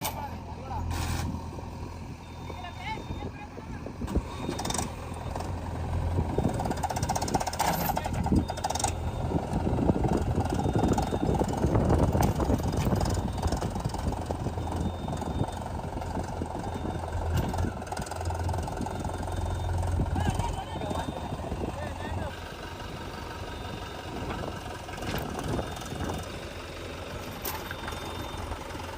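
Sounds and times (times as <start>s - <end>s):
diesel engine humming: 0.0s - 28.9s.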